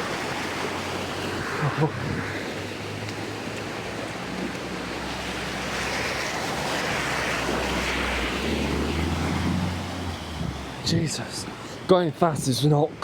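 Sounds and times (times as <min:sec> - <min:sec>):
low vehicle engine hum: 0:00.0 - 0:11.9
floodwater rushing: 0:00.0 - 0:13.0.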